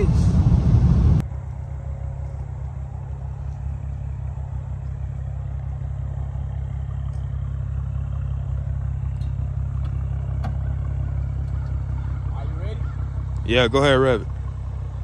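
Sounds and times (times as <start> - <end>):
car exhaust idling: 0.0 - 15.0.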